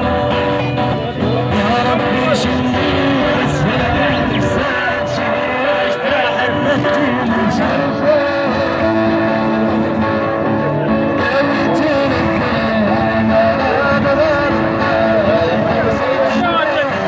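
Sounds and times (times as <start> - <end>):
amplified guitars playing: 0.0 - 17.0
person singing: 0.0 - 17.0.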